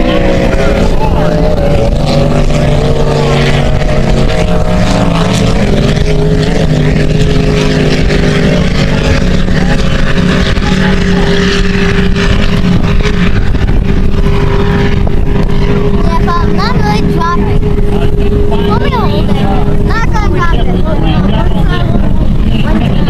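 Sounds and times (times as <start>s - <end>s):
low rumble: 0.0s - 23.0s
motorboat engine running: 0.0s - 23.0s.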